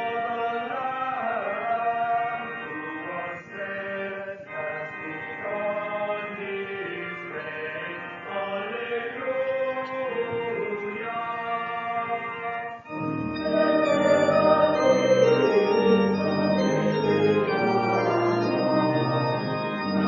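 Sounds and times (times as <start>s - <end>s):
church organ playing a hymn: 0.0s - 20.0s
voices singing: 0.0s - 20.0s.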